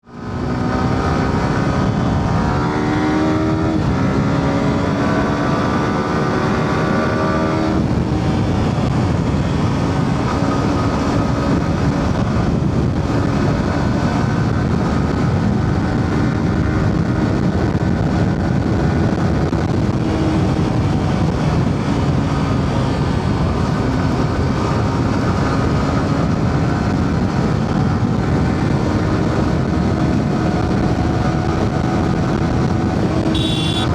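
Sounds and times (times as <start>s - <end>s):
wind and road noise: 0.0s - 33.9s
motorcycle engine accelerating: 0.2s - 22.7s, 28.4s - 33.9s.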